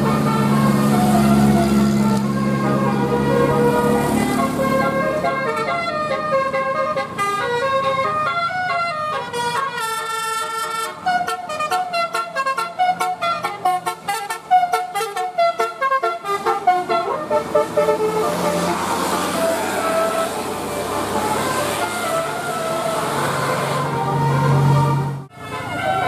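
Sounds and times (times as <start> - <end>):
musical air horn melody: 0.0 - 26.0.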